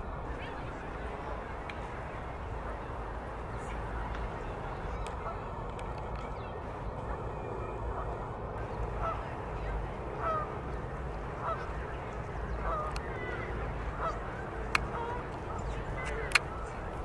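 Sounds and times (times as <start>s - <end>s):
background hum: 0.0s - 17.0s
geese honking: 2.5s - 6.0s, 6.6s - 17.0s.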